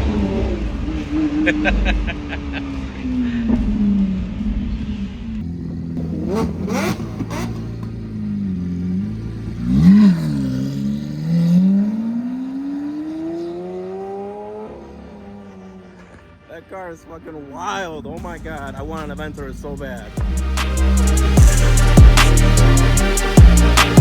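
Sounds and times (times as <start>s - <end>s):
sports car engine revving: 0.0s - 16.1s, 18.3s - 24.0s.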